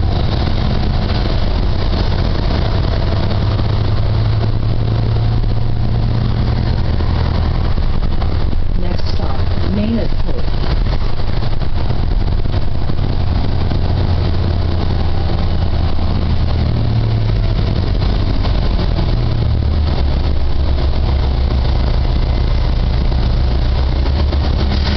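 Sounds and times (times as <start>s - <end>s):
bus diesel engine drone: 0.0s - 24.9s.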